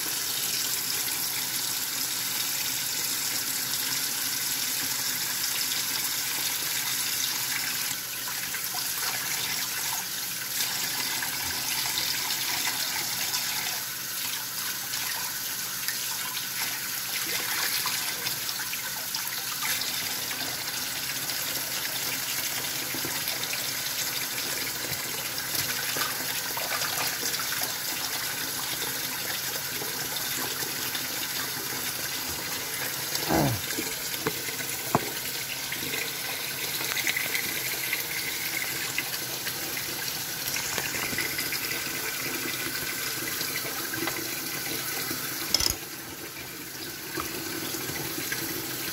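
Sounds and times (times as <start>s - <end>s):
tap water running into sink: 0.0s - 48.9s.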